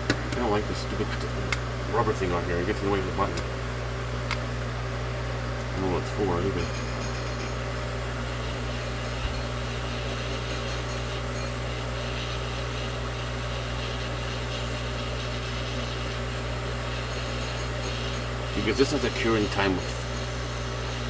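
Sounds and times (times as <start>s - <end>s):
small fan motor humming: 0.0s - 21.0s.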